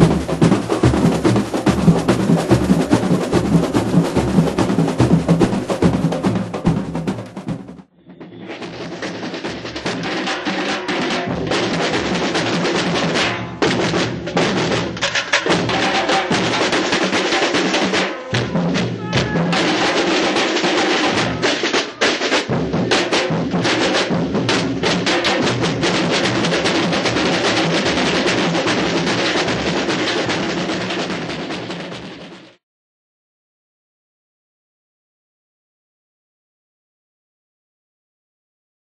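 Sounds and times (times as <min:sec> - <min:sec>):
massed drums and percussion: 0:00.0 - 0:32.6.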